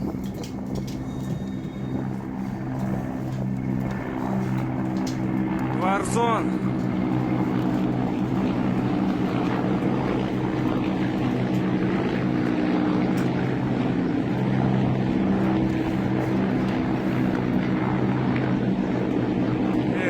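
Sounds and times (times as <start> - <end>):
helicopter flying: 0.0 - 20.0.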